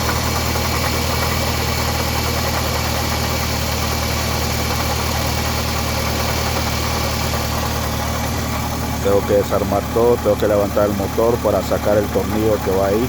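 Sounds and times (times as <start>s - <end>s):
car engine idling: 0.0s - 13.0s
engine running noise: 0.0s - 13.0s.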